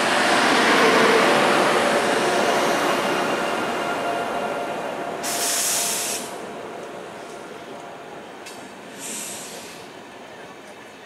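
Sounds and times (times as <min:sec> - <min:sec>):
train coaches rumbling past: 0:00.0 - 0:11.0.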